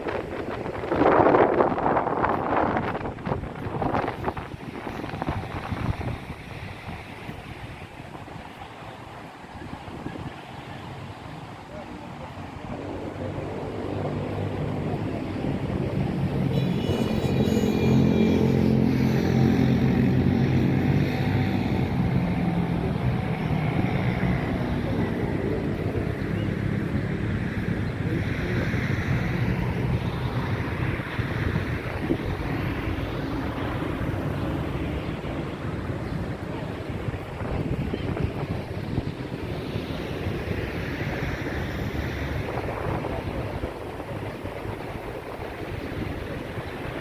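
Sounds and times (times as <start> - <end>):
engine running close by: 0.0 - 47.0
surf on rough sea: 0.0 - 47.0
wind buffeting microphone: 0.0 - 47.0.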